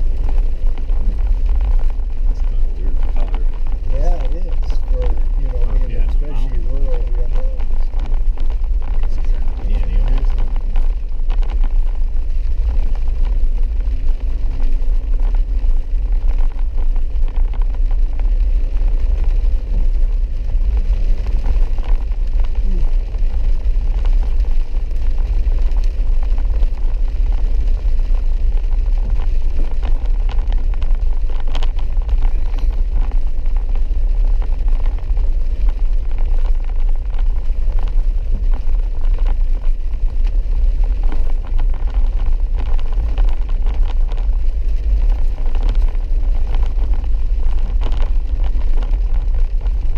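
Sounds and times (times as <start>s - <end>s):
vehicle engine and road rumble: 0.0s - 49.9s
faint ticks: 6.9s - 49.9s.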